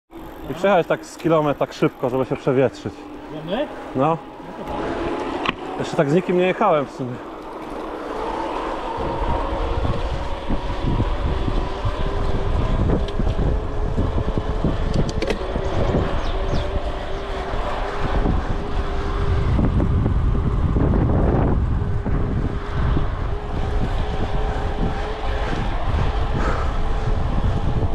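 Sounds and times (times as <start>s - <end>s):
wind buffeting microphone: 0.1s - 27.9s.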